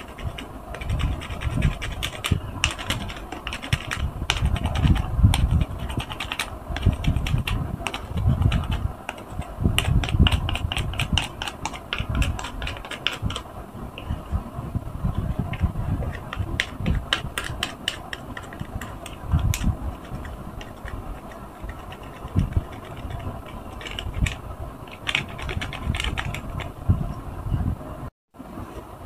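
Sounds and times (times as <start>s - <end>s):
soap grating on grater: 0.0s - 13.4s, 15.4s - 26.7s.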